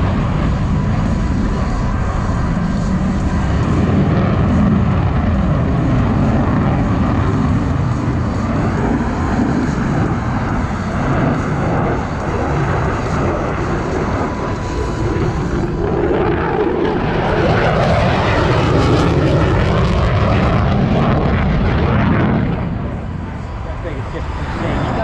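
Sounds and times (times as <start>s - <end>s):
fighter jet engine roar: 0.0s - 25.0s.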